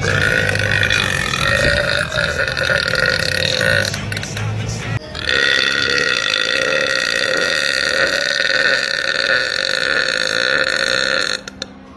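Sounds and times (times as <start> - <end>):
woman burping: 0.0 - 4.2, 5.1 - 11.6.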